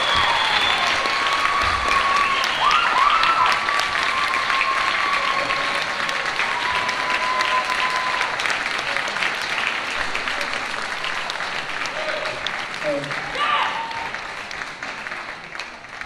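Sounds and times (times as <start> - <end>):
high calls from crowd: 0.0 - 9.1, 9.8 - 14.4
audience clapping: 0.0 - 16.0.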